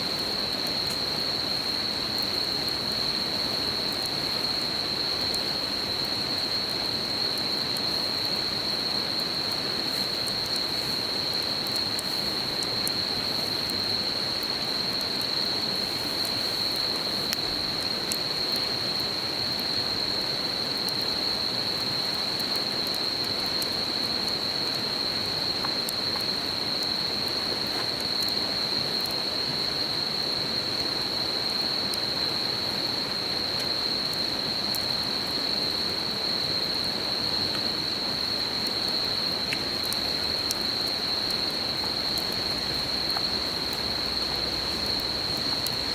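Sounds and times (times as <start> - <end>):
campfire crackles: 0.0 - 45.9
high-pitched insect chorus: 0.0 - 45.9.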